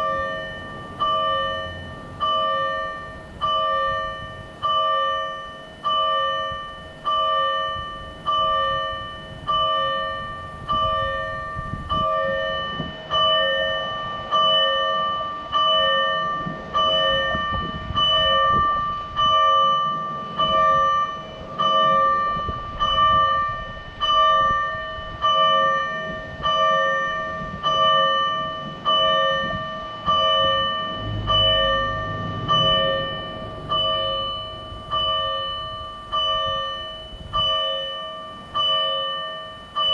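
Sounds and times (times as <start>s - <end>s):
fire engine warning bell: 0.0s - 39.9s.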